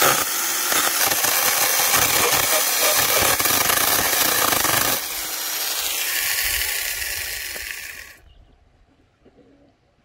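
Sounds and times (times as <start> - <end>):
electric chainsaw cutting wood: 0.0 - 8.2.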